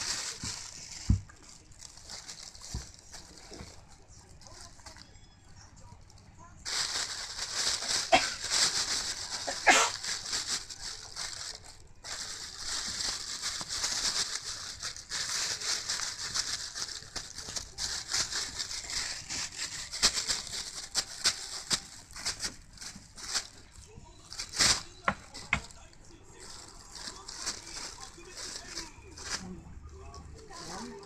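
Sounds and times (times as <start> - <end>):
plastic bag crinkling: 0.0 - 5.3, 6.6 - 31.0.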